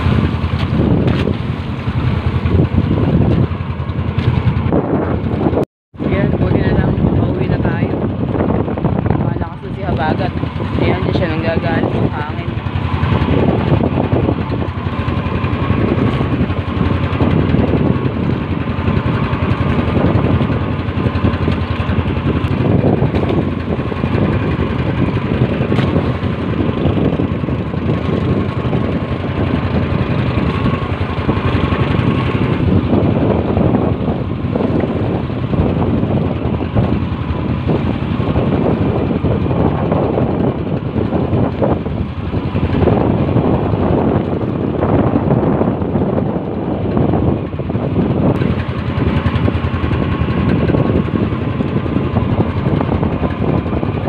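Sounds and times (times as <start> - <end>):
water splashing against hull: 0.0 - 5.4, 6.6 - 54.0
boat engine running: 0.0 - 54.0
wind: 0.0 - 54.0.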